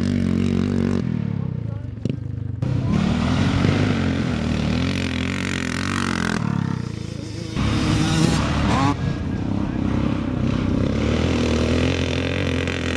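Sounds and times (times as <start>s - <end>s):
motorcycle engines revving: 0.0s - 12.9s.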